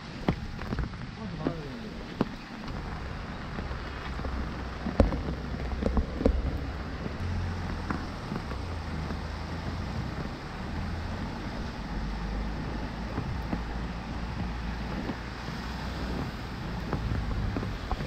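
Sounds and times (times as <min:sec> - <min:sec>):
low rumble: 0:00.0 - 0:18.0
steady rain: 0:00.0 - 0:18.0.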